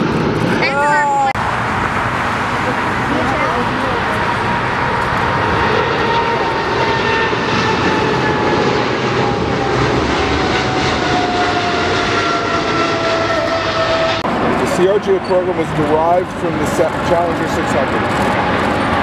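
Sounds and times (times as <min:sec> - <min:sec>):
jet engines at take-off thrust: 0:00.0 - 0:19.0
thin jet whine: 0:00.0 - 0:19.0.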